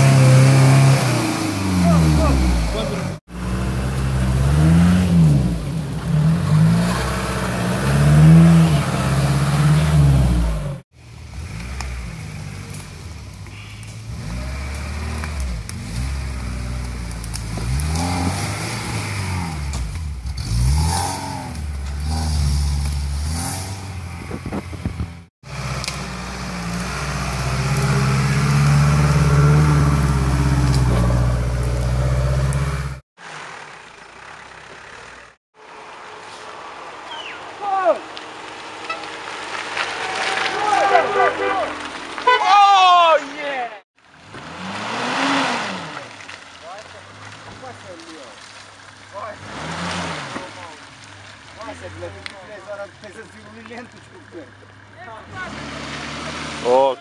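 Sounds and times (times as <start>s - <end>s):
off-road vehicle engines revving: 0.0s - 57.0s.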